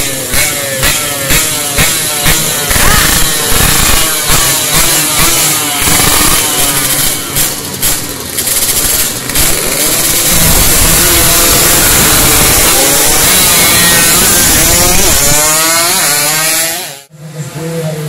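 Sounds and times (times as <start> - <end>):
race motorcycles revving: 0.0 - 18.0.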